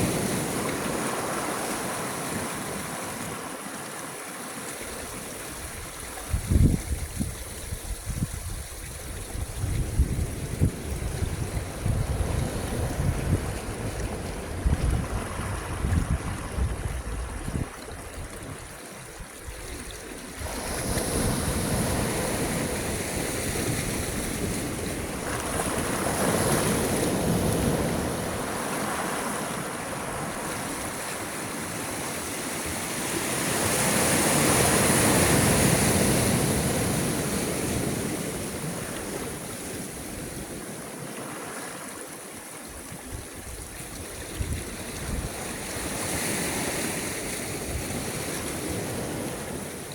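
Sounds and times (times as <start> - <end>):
sea waves breaking: 0.0 - 49.9.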